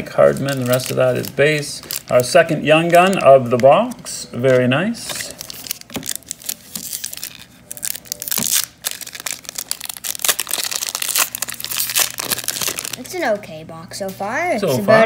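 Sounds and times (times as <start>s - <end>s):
wrapper tearing and crinkling: 0.0s - 13.3s.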